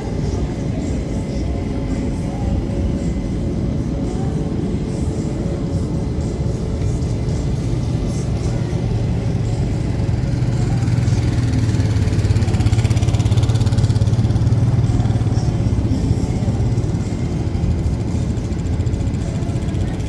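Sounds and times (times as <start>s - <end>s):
airplane engine droning: 0.0s - 20.0s.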